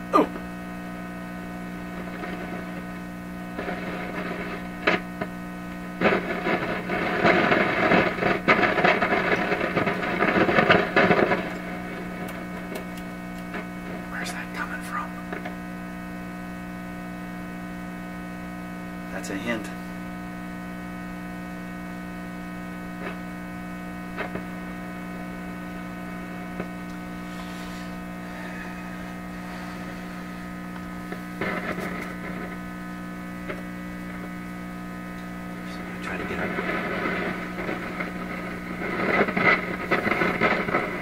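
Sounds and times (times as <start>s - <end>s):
radio receiver mains hum: 0.0s - 41.0s
short crackle: 0.1s - 41.0s.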